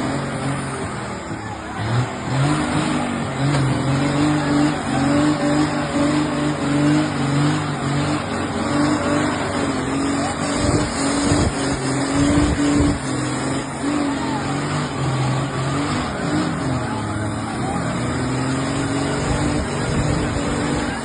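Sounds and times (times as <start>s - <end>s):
spinning tyres hissing: 0.0s - 21.0s
truck engine revving: 0.0s - 21.0s.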